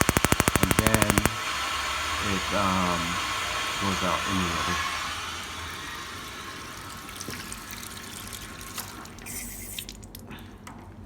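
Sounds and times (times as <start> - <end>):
water running through tap: 1.1 - 10.2.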